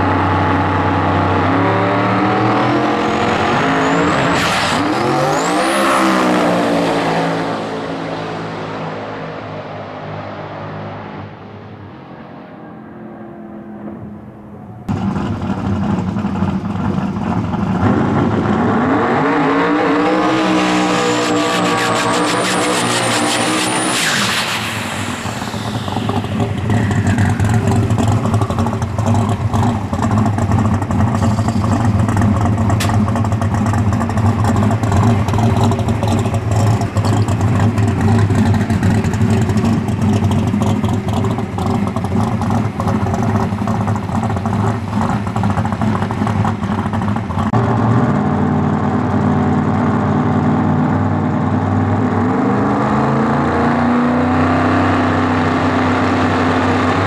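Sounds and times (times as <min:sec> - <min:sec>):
drag car engine revving: 0:00.0 - 0:57.0
high turbo whine: 0:00.0 - 0:57.0.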